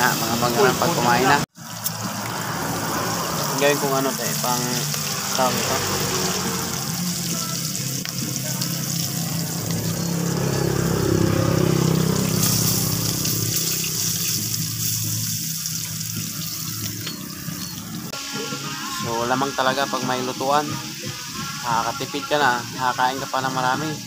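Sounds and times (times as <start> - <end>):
fish sizzling in oil: 0.0 - 24.0.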